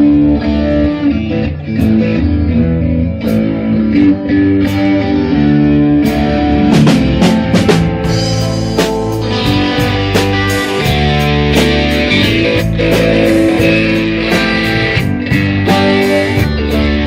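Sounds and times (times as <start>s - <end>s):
bass line: 0.0s - 17.0s
electric guitar: 0.0s - 17.0s.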